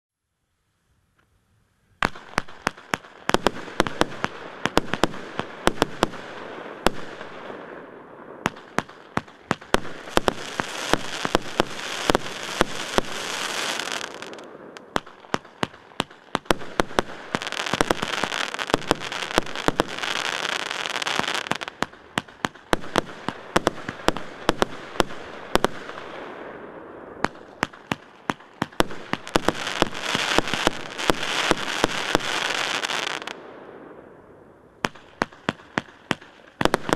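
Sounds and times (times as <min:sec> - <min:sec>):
fireworks bangs: 0:02.0 - 0:34.1, 0:34.8 - 0:36.9
fireworks crackling: 0:02.0 - 0:34.1, 0:34.8 - 0:36.9.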